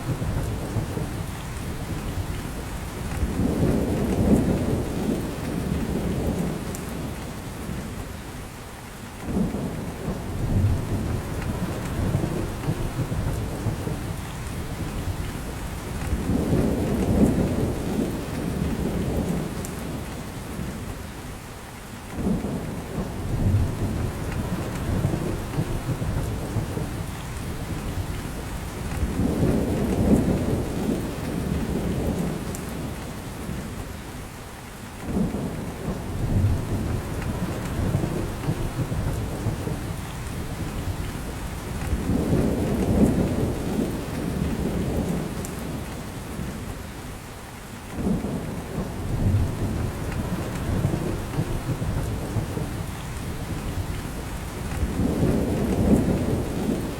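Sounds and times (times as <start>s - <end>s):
rain pattering on forest: 0.0s - 56.9s.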